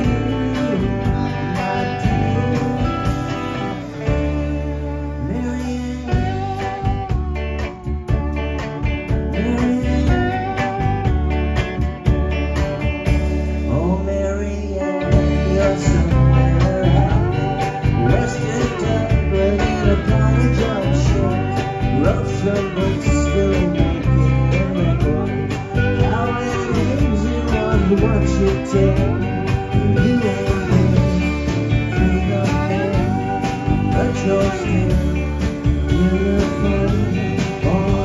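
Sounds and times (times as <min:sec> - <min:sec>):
lead guitar bending pitch: 0:00.0 - 0:38.0
rock band playing: 0:00.0 - 0:38.0.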